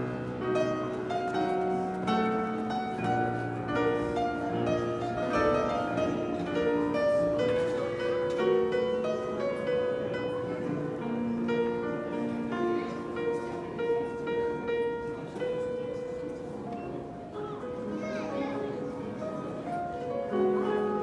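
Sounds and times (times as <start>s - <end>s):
piano melody over chords: 0.0s - 21.0s.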